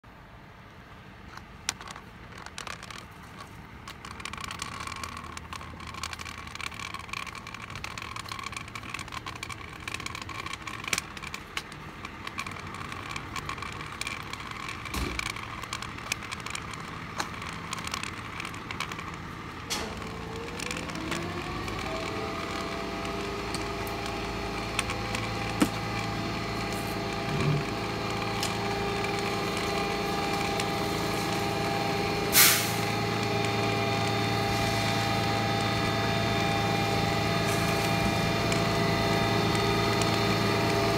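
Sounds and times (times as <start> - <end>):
diesel truck engine running: 0.0 - 40.9
pump whine: 2.6 - 40.9.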